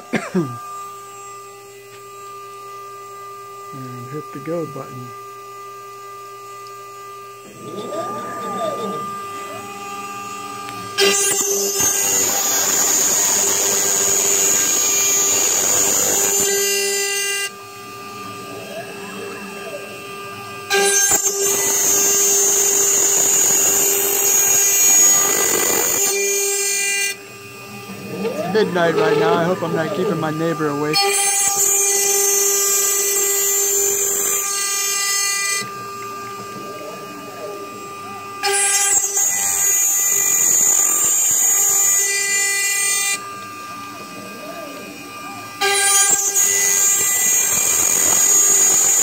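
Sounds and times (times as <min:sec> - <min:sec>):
router bit cutting carbon fiber: 0:00.0 - 0:49.0
spindle high whine: 0:00.0 - 0:49.0.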